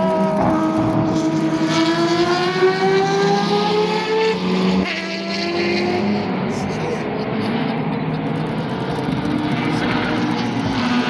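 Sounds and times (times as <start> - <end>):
race car engines accelerating: 0.0 - 11.0.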